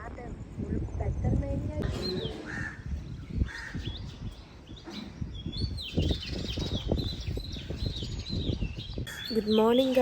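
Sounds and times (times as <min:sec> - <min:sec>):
bird chirping: 0:00.8 - 0:10.0.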